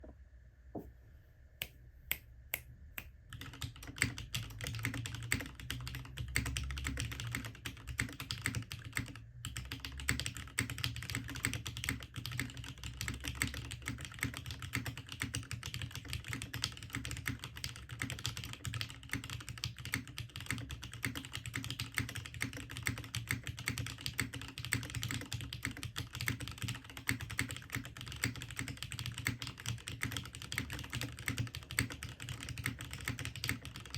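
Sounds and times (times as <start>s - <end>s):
mechanical keyboard typing: 3.3s - 33.9s.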